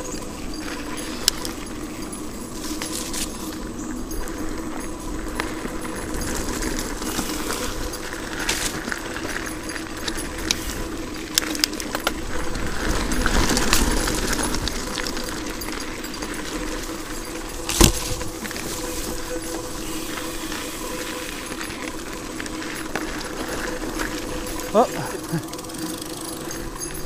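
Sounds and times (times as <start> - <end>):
bike rattling and clicking: 0.0 - 27.0
bike tyres on gravel: 0.0 - 27.0.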